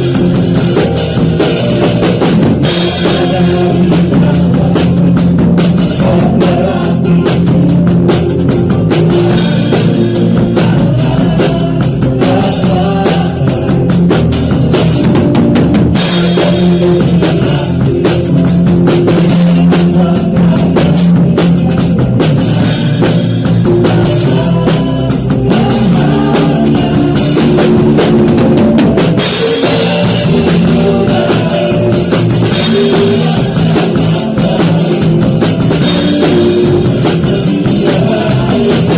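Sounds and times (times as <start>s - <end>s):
bass guitar: 0.0s - 38.9s
drum kit playing: 0.0s - 38.9s
electric guitar: 0.0s - 38.9s
keyboard: 0.0s - 38.9s.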